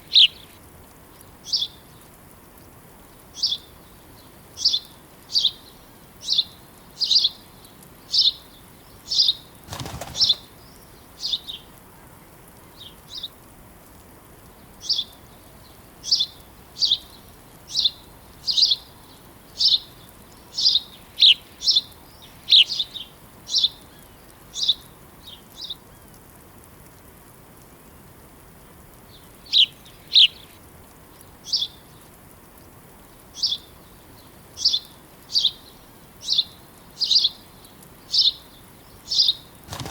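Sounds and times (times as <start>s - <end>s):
small birds chirping: 0.0s - 13.4s, 14.4s - 26.2s, 29.0s - 32.2s, 33.1s - 39.9s.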